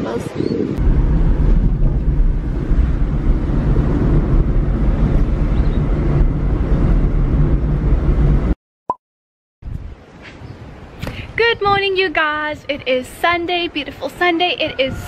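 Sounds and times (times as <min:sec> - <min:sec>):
wind and road noise in car: 0:00.0 - 0:08.6, 0:09.6 - 0:15.0.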